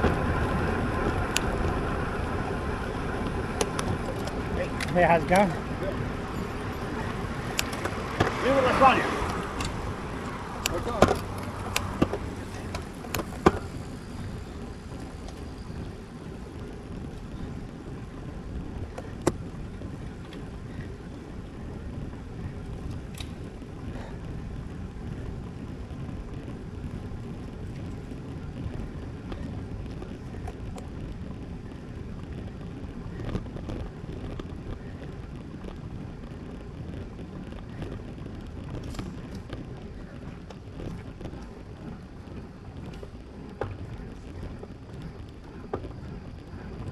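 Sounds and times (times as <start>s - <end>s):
bicycle tyre noise: 0.0s - 46.9s
wind rumble: 0.0s - 46.9s.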